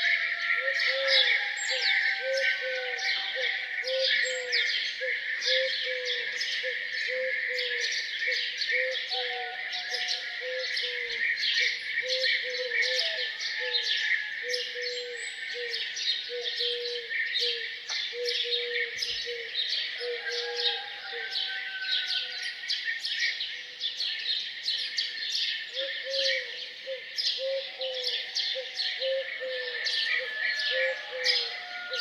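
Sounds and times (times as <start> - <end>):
songbirds chirping and twittering: 0.0 - 32.0.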